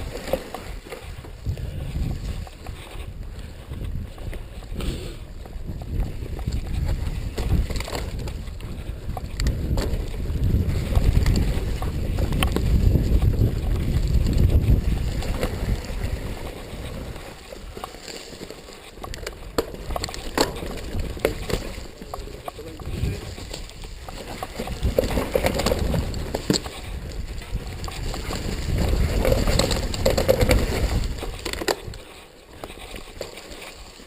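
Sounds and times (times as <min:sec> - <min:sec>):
bike rattles and clicks: 0:00.0 - 0:34.0
wind rumbling on microphone: 0:00.0 - 0:34.0.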